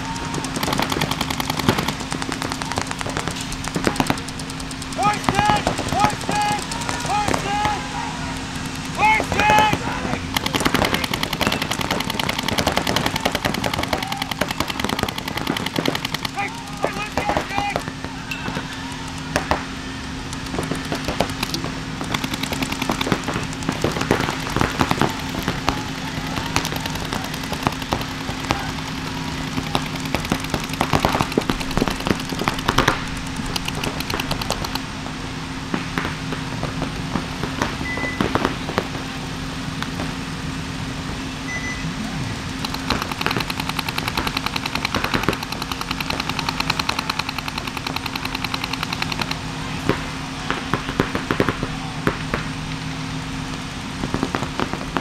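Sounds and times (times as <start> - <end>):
paintball guns firing: 0.0 - 35.1, 35.7 - 40.2, 42.5 - 52.9, 53.5 - 55.0
low hum: 0.0 - 55.0.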